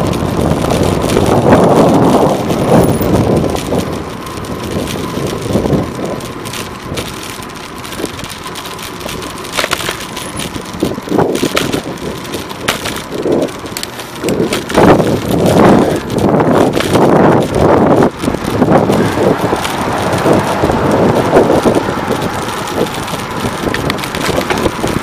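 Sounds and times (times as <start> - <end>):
bicycle clicks and knocks: 0.0 - 25.0
wind buffeting microphone: 0.0 - 25.0.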